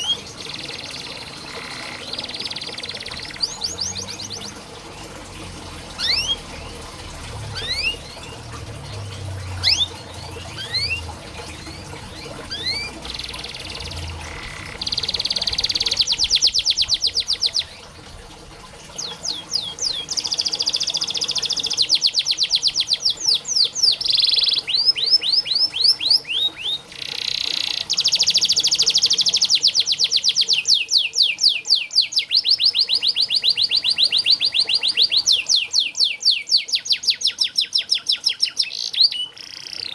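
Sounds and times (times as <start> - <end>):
canary singing: 0.0 - 4.7, 5.9 - 17.8, 18.9 - 39.9.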